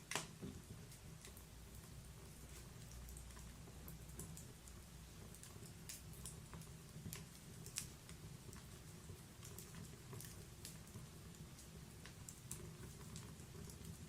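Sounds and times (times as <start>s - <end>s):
small fire pops and snaps: 0.0s - 14.0s
wood fire crackling softly: 0.0s - 14.0s.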